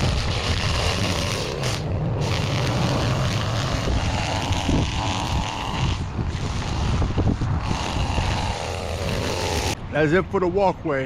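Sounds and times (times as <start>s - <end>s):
gas trimmer engine running: 0.0s - 9.8s.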